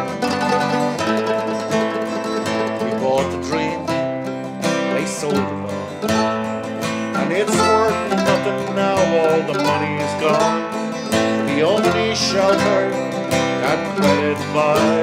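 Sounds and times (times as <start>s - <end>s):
acoustic guitar strumming: 0.0s - 15.0s
mandolin picking melody: 0.0s - 15.0s.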